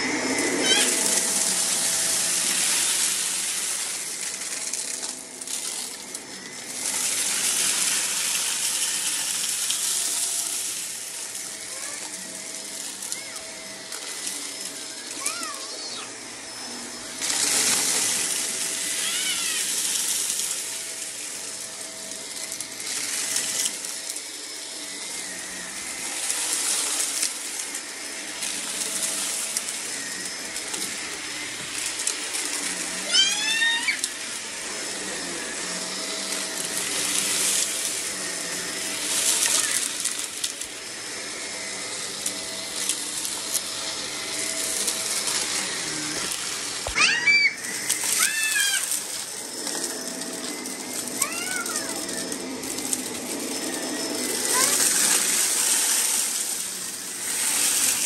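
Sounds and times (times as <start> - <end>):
vacuum cleaner running over carpet: 0.0 - 58.0.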